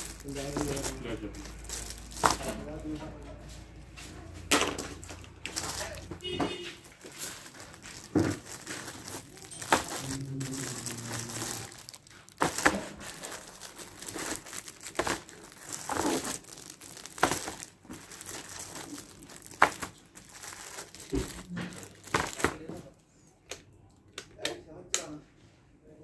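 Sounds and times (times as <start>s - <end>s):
plastic film crinkling: 0.0s - 23.0s.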